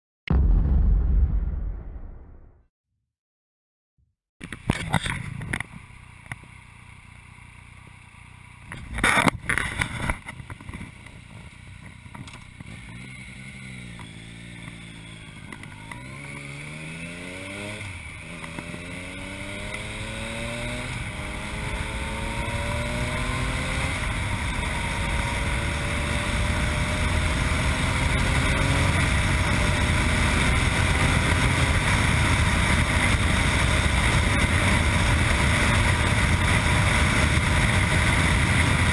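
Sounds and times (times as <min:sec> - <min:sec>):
motorcycle engine accelerating: 0:05.0 - 0:38.9.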